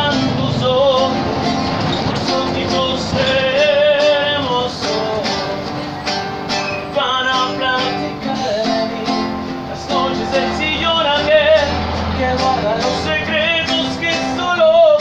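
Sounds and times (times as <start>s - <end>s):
man singing: 0.0s - 15.0s
strummed acoustic guitar: 0.0s - 15.0s.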